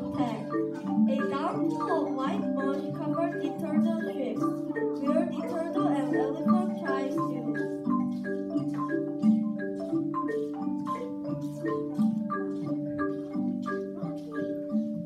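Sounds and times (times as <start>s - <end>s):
mallet percussion melody: 0.0s - 15.0s.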